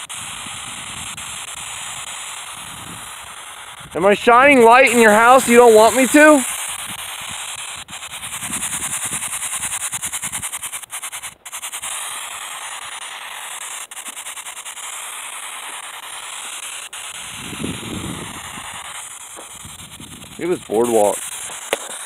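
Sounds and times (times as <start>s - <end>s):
radio static hiss: 0.0s - 22.0s
rapid clicks: 0.0s - 22.0s.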